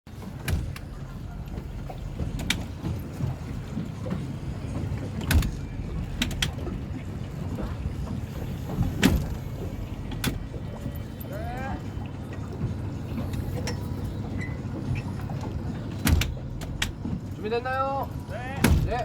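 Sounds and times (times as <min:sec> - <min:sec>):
boat engine idling: 0:00.1 - 0:19.0.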